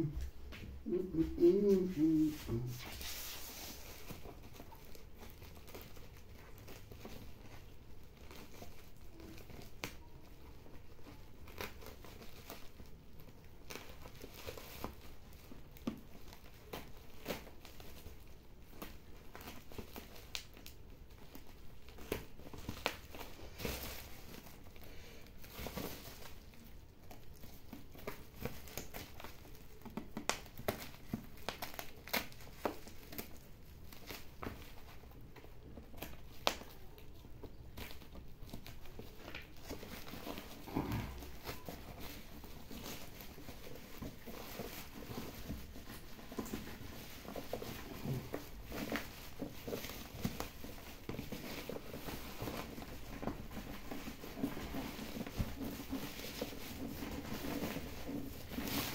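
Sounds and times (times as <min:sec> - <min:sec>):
bubble wrap handled: 0:00.0 - 0:58.9
plastic wrap crinkling and tearing: 0:00.0 - 0:58.9.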